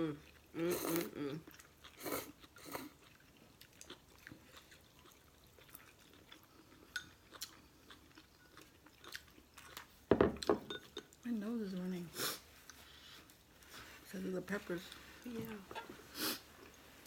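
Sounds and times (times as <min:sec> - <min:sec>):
faint chewing of noodles: 0:00.0 - 0:17.0.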